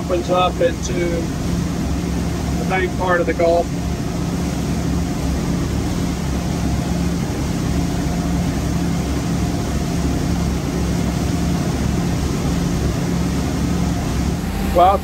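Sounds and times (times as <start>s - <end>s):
boat engines running: 0.0s - 15.0s
rushing boat wake: 0.0s - 15.0s.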